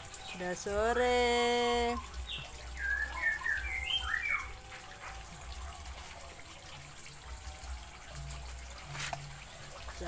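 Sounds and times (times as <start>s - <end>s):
water trickling: 0.0s - 10.0s.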